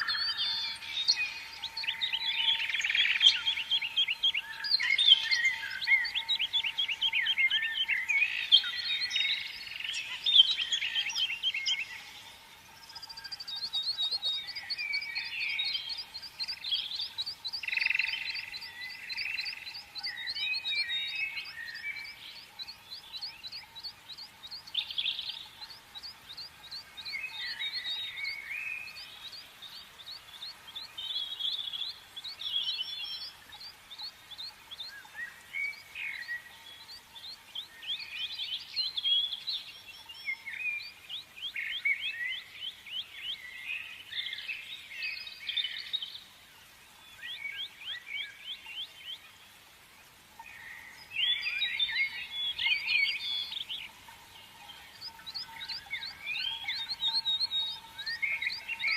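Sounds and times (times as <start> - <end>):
small birds singing: 0.0 - 58.9.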